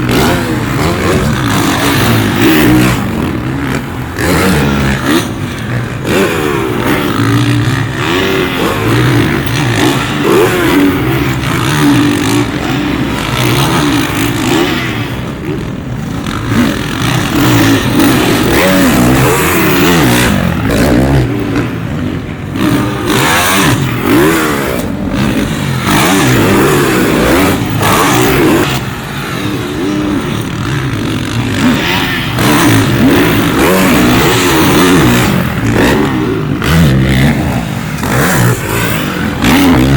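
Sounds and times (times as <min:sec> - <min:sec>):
dirt bikes revving: 0:00.0 - 0:39.9.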